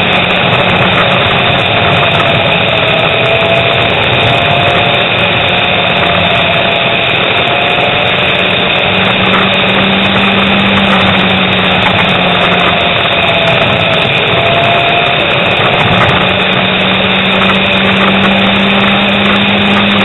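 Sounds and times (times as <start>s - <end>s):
motorcycle engine running: 0.0s - 20.0s
rushing wind noise: 0.0s - 20.0s.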